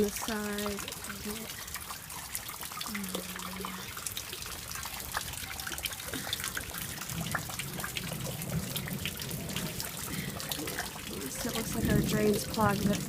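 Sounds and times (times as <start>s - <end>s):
small water splashes: 0.0s - 13.0s
water trickling and dripping: 0.0s - 13.0s.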